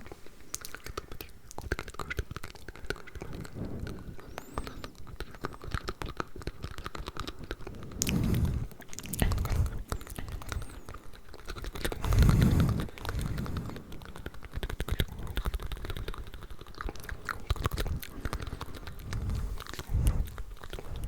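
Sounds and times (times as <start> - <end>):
wet mouth clicks and smacks: 0.5 - 21.0.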